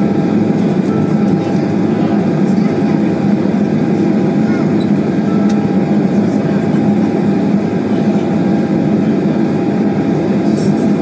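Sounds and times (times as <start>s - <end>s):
jet engines and cabin air hum: 0.0s - 11.0s.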